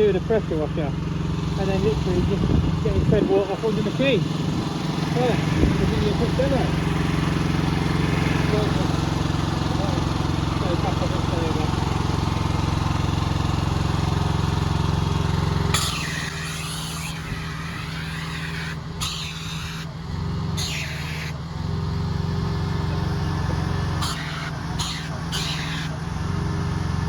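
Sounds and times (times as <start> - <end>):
pressure washer engine running: 0.0 - 27.0
high-pressure spray hissing: 3.4 - 13.0, 13.7 - 27.0.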